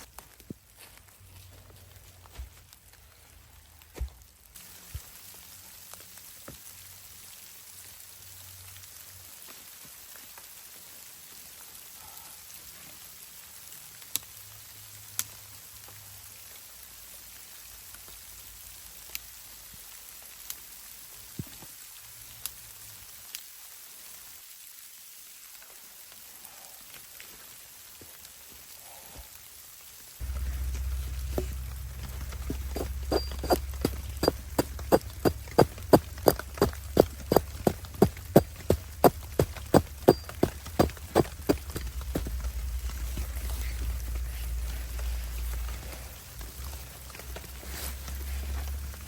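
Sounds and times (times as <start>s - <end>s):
soft hiss of falling precipitation: 0.0s - 49.0s.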